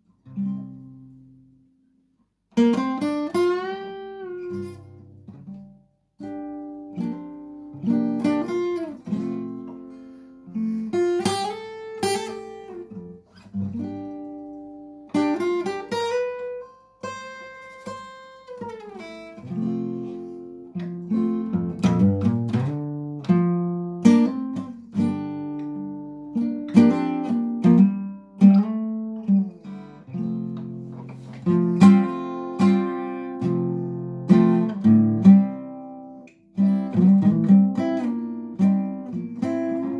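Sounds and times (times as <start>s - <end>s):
solo acoustic guitar: 0.0s - 39.9s.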